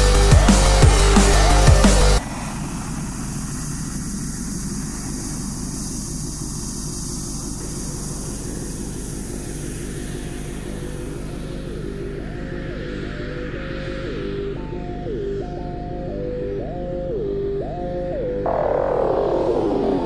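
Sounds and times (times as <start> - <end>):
electronic music with heavy beat: 0.0 - 20.0
propeller aircraft engine drone: 0.0 - 20.0.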